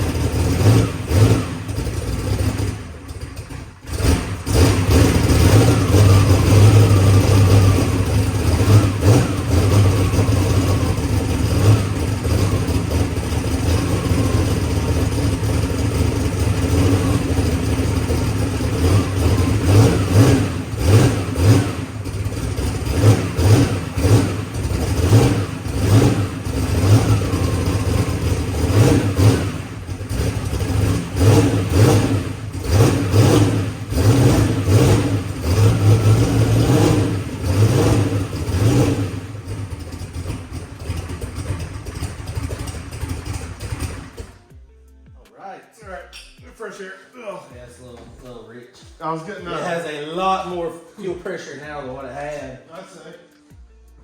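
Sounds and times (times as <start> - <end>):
drag car engine running: 0.0 - 44.5.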